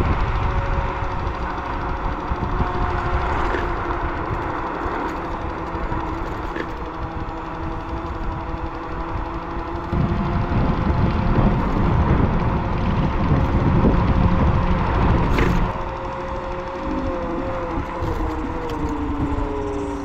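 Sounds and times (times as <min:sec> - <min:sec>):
steady whining tones: 0:00.0 - 0:20.0
vehicle engine rumble: 0:00.0 - 0:20.0.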